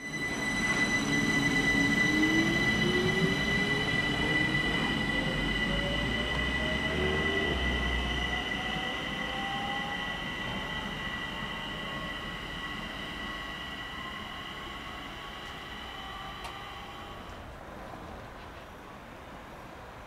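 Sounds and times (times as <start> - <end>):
steady high tones: 0.0 - 17.4
electric train drive whine: 0.0 - 17.7.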